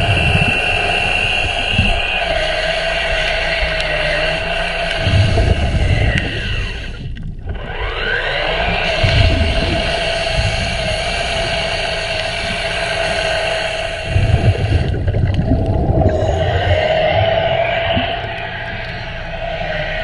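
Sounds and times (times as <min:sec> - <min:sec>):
brush scrubbing hull rumble: 0:00.0 - 0:20.0
churning water: 0:00.0 - 0:20.0
motor whining: 0:00.0 - 0:20.0.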